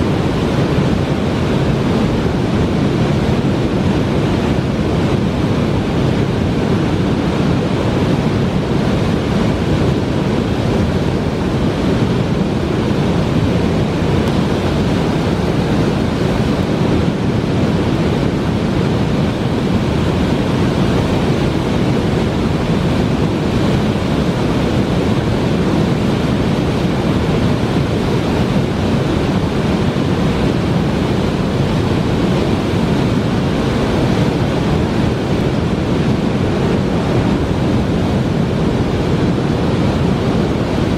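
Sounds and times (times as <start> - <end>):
waterfall and rapids rushing: 0.0 - 40.9.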